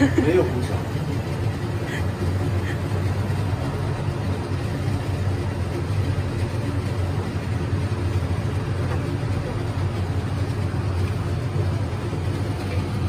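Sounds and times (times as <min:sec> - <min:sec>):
range hood fan humming: 0:00.0 - 0:13.0.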